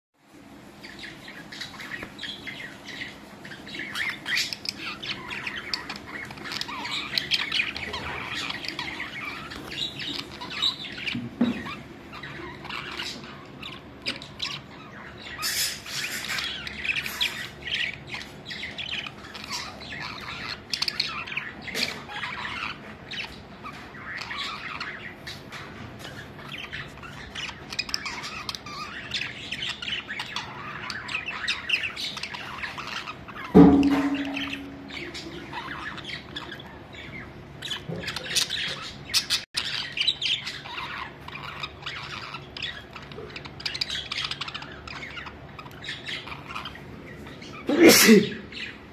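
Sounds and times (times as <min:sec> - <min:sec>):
budgerigars chirping and squawking: 0:00.4 - 0:48.9.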